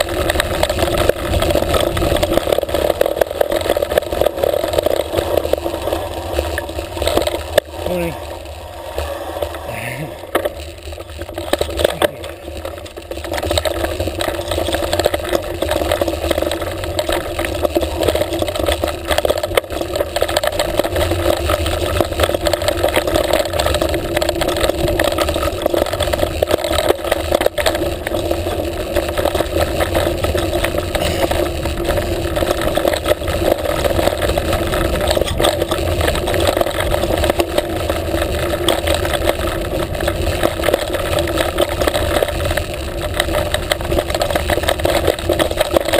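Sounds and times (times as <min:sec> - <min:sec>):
bike rattling over bumps: 0:00.0 - 0:45.9
bike tyre rumble: 0:00.0 - 0:45.9.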